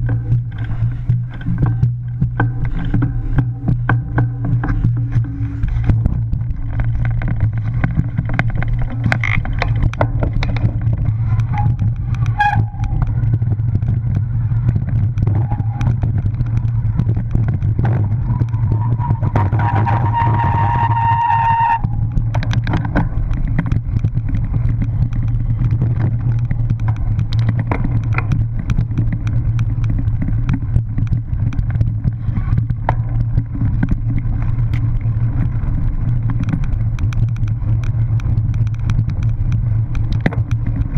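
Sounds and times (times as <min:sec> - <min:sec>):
bike rattling over bumps: 0:00.0 - 0:40.9
high steady whine: 0:00.0 - 0:40.9
tyres rumbling on dirt: 0:00.0 - 0:40.9.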